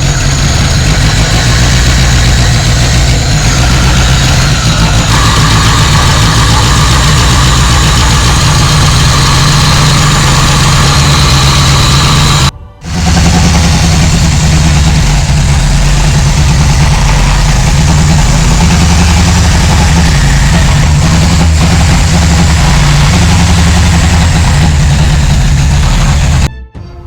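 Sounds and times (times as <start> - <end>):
petrol engine idling: 0.0 - 26.5.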